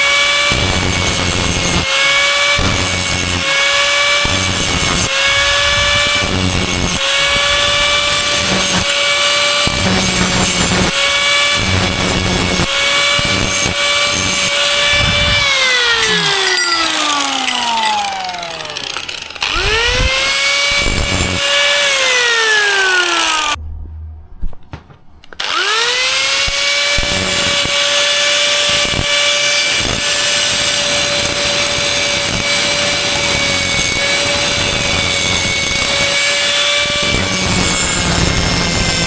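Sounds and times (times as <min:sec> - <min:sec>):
angle grinder on metal: 0:00.0 - 0:23.6, 0:25.4 - 0:39.0
angle grinder winding down: 0:00.0 - 0:23.6, 0:25.4 - 0:39.0.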